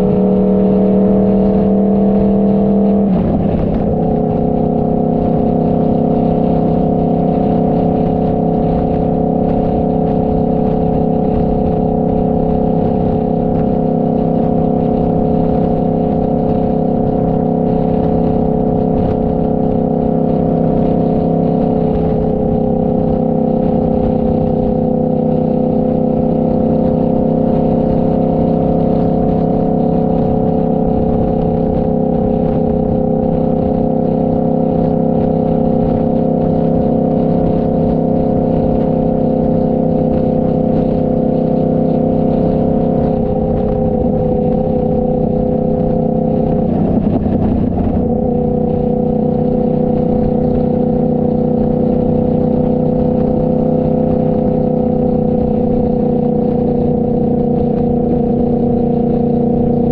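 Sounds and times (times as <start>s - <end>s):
low rushing rumble: 0.0s - 56.1s
motorcycle engine cruising: 0.0s - 59.9s.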